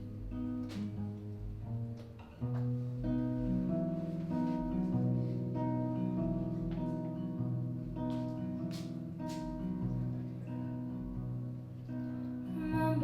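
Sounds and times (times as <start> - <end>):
guitar playing chords: 0.0 - 13.0.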